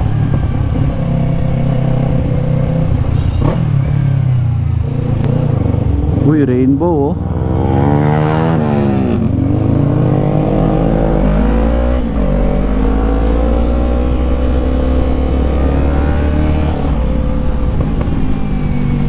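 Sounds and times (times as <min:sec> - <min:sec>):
motorcycle engine and exhaust: 0:00.0 - 0:19.0.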